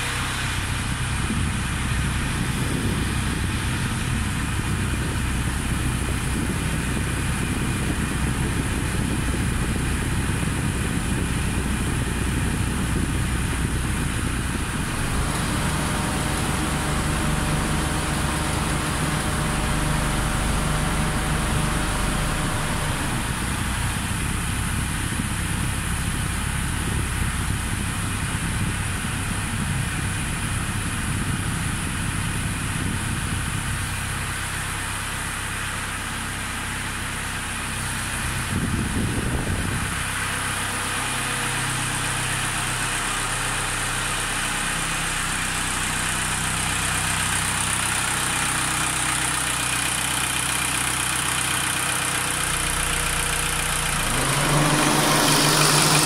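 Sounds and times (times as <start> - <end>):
air rushing from vents: 0.0 - 33.9, 37.7 - 51.2, 52.5 - 56.0
car engine idling: 0.0 - 56.0.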